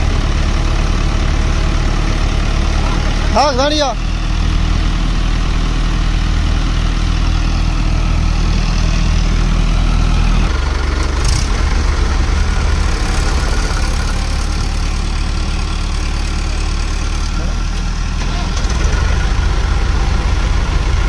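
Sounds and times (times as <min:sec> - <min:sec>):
diesel tractor engines idling: 0:00.0 - 0:21.0.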